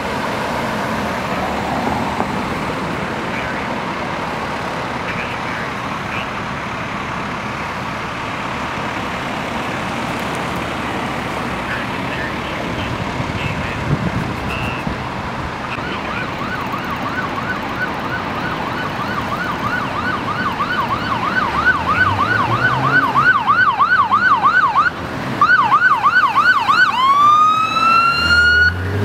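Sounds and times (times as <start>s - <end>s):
emergency siren yelp and wail: 0.0s - 29.0s
vehicle and road noise: 0.0s - 29.0s.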